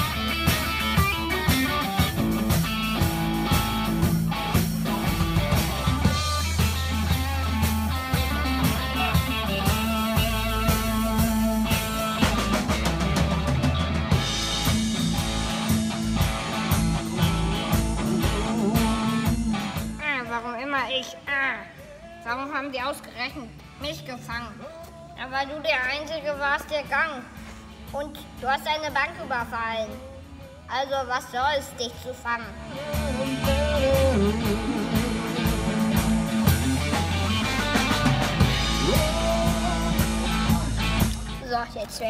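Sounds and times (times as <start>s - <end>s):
rock music with guitar and drums: 0.0s - 42.0s.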